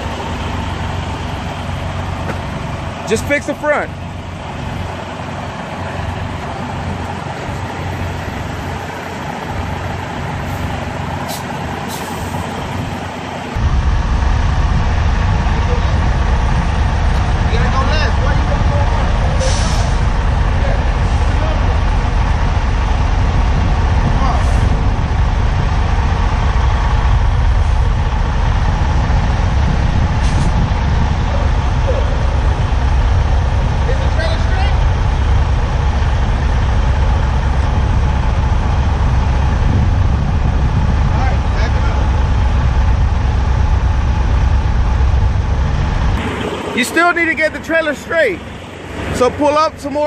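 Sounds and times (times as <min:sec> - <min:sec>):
truck diesel engine running: 0:00.0 - 0:50.0.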